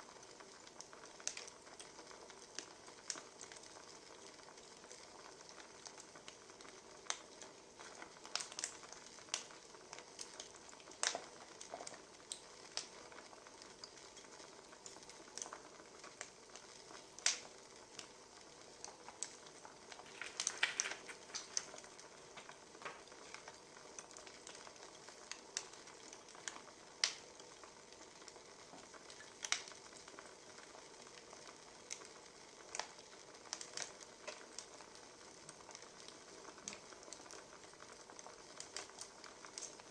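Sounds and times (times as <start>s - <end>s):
wood fire crackling: 0.0s - 39.9s
fire hissing: 6.8s - 39.9s.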